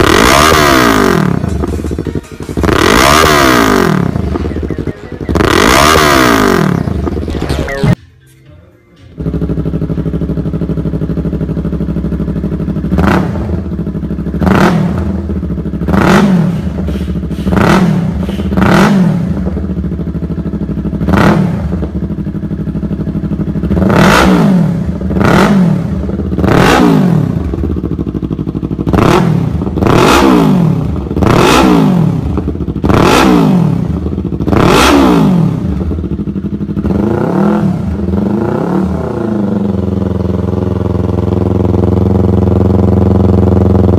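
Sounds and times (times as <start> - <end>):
engine revving: 0.0 - 8.0, 9.1 - 43.9
motorcycle engine idling: 0.0 - 8.0, 9.0 - 43.9.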